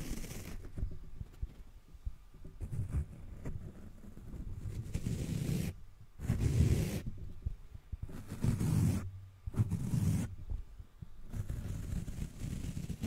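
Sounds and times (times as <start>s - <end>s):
fingers rubbing microphone windscreen: 0.0s - 1.7s, 2.4s - 7.4s, 8.0s - 10.6s, 11.3s - 13.0s.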